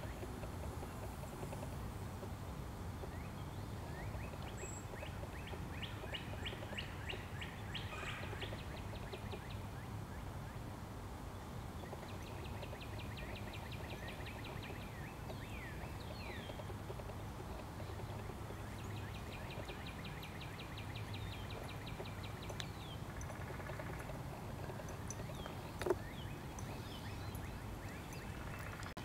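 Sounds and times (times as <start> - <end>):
songbirds trilling: 0.0 - 10.7, 11.4 - 29.0.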